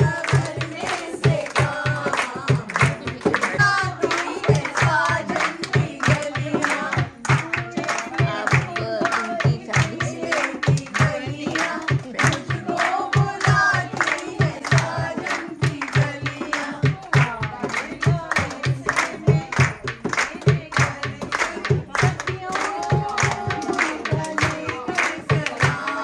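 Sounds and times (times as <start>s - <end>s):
hand drum steady beat: 0.0s - 26.0s
voices singing folk song: 0.0s - 26.0s.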